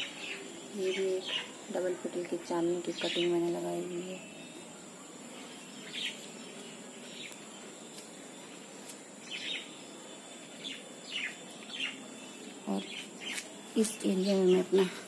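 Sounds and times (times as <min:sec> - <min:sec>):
faint steady hiss: 0:00.0 - 0:15.0
small birds chirping: 0:00.0 - 0:15.0.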